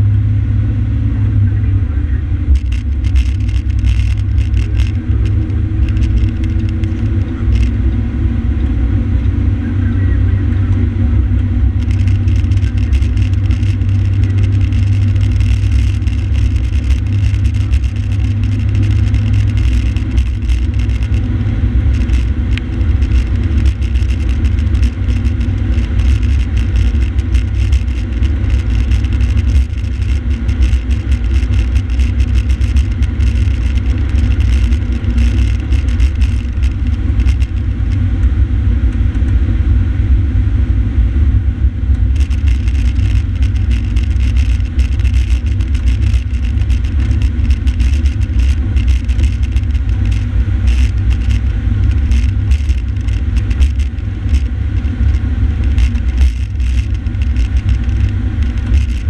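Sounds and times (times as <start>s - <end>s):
diesel engine and tyre rumble: 0.0s - 59.0s.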